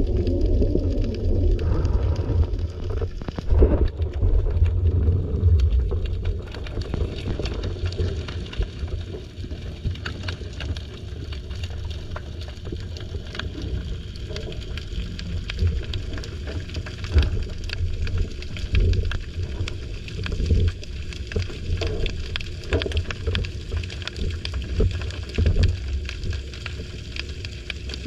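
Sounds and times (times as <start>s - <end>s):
crackling clicks underwater: 0.0s - 28.0s
underwater rumble of moving water: 0.0s - 28.0s.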